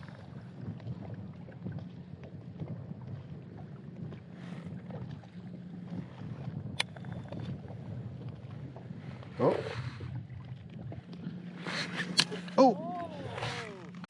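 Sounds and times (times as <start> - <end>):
water lapping against kayak hull: 0.0 - 14.0
wind on microphone: 0.0 - 14.0.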